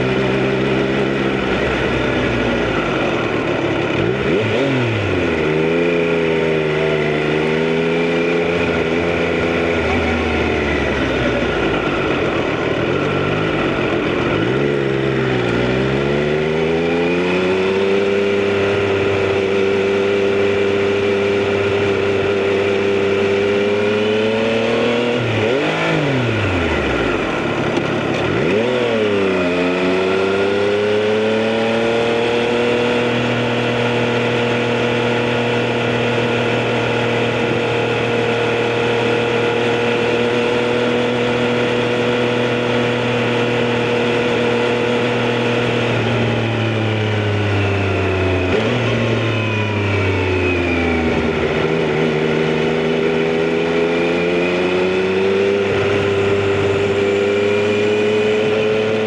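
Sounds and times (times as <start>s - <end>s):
motorcycle engine and exhaust: 0.0s - 59.0s
wind and road noise: 0.0s - 59.0s.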